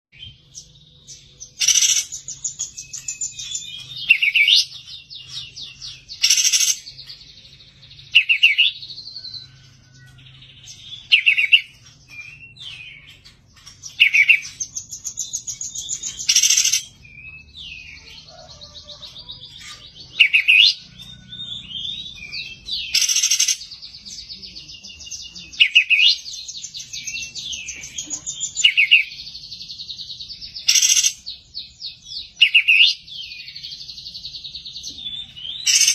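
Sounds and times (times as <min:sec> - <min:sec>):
songbird singing trills: 0:00.1 - 0:35.9
loud sharp bird notes: 0:00.2 - 0:35.9.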